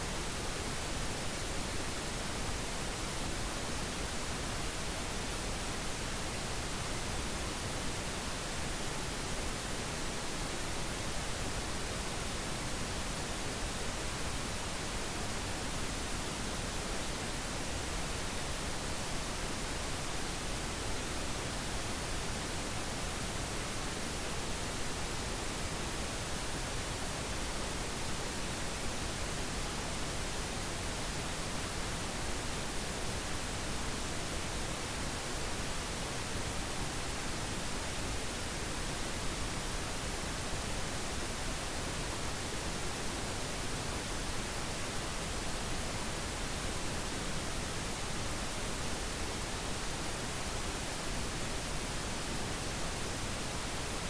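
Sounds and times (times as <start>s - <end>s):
pink noise hiss: 0.0s - 54.0s.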